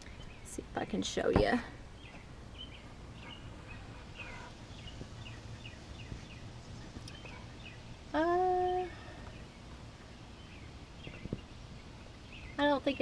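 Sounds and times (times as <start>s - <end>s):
low background hum: 0.0s - 13.0s
small bird chirping: 1.9s - 13.0s.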